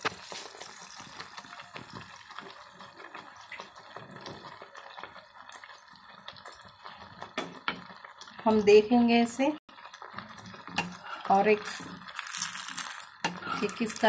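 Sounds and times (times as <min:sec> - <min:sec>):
dough deep-frying in hot oil: 0:00.0 - 0:14.0.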